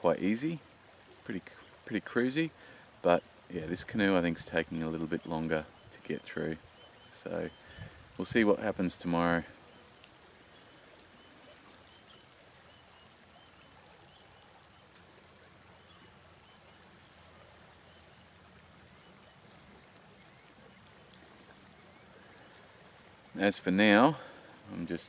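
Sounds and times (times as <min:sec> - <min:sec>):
faint river rushing: 0:00.0 - 0:25.0.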